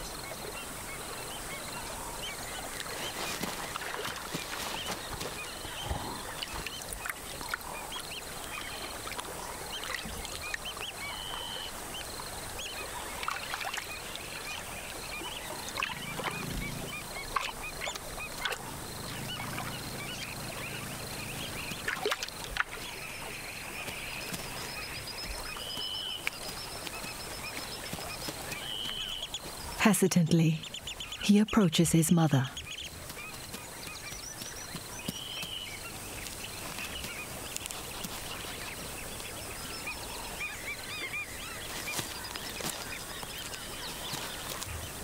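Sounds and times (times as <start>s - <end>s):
wild birds chirping and calling: 0.0s - 45.0s.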